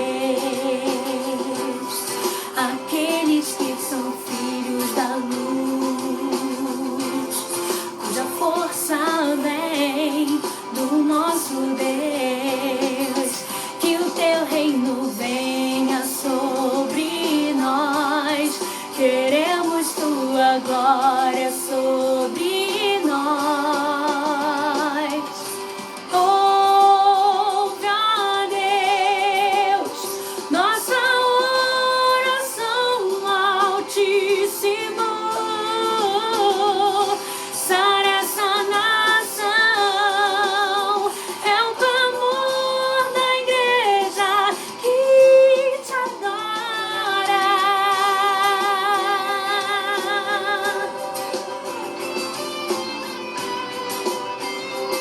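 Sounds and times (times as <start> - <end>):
woman singing with vibrato: 0.0 - 51.6
instrumental accompaniment: 0.0 - 55.0.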